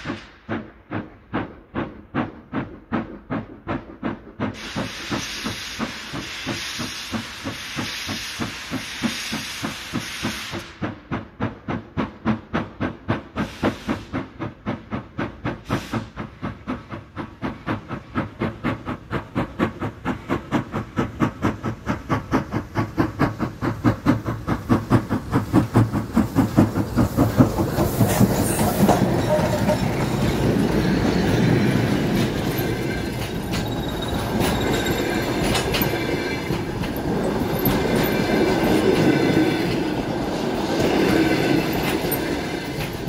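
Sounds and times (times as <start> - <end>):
steam hiss: 0.0 - 43.0
steam locomotive exhaust chuffs: 0.0 - 43.0
wheel and rail noise: 0.0 - 43.0.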